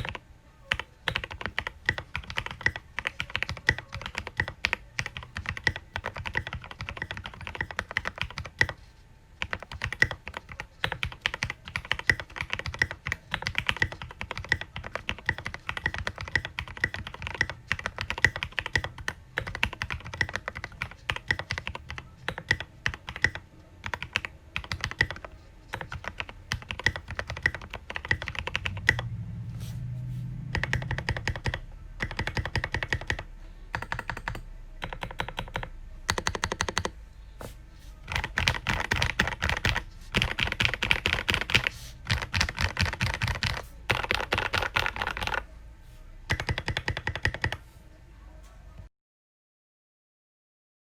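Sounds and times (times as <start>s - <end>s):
fast typing on mechanical keyboard: 0.0s - 8.8s, 9.4s - 29.0s, 30.5s - 36.9s, 38.0s - 45.4s, 46.3s - 47.6s.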